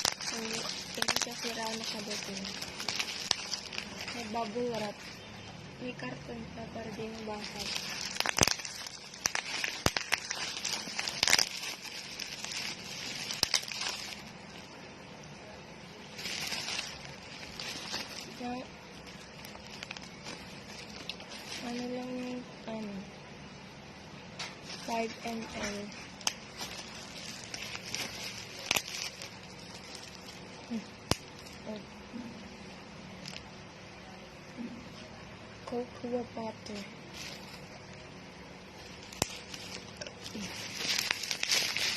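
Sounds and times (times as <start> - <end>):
bubble wrap crinkling: 0.0 - 15.2, 15.8 - 23.1, 24.3 - 33.8, 36.1 - 41.9
faint steady hum: 0.0 - 41.9.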